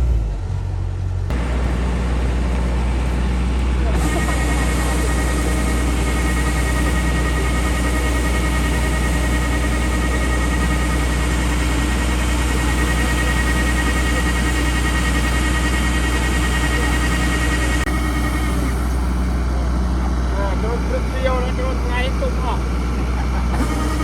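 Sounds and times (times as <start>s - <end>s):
engine deep hum: 0.0s - 24.0s
engine high whine: 0.0s - 24.0s.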